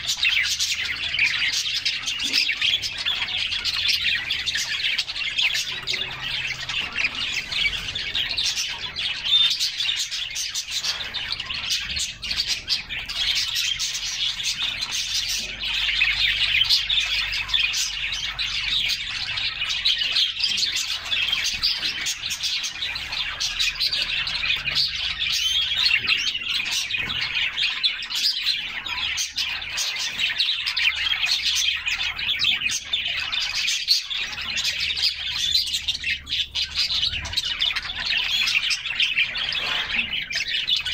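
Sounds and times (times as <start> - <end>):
canaries singing and chirping: 0.0 - 40.9.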